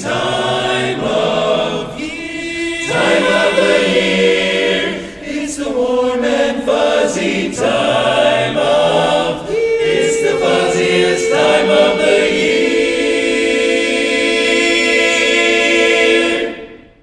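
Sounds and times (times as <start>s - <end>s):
men's chorus singing a cappella: 0.0s - 17.0s.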